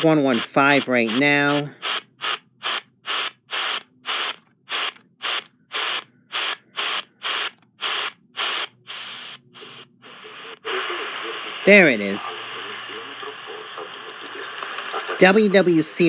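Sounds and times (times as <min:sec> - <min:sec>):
radio static bursts: 0:00.0 - 0:16.0
steady radio hiss: 0:00.0 - 0:16.0.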